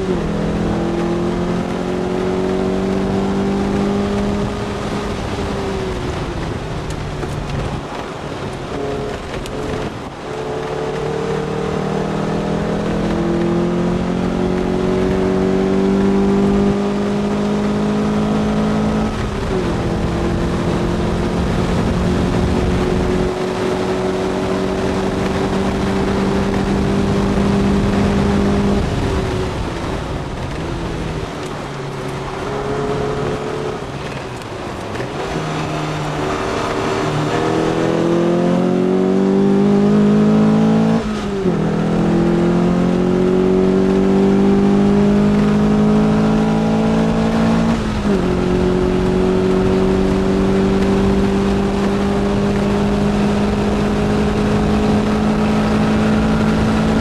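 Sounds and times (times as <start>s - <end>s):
car engine revving: 0.0s - 57.0s
road and wind noise: 0.0s - 57.0s.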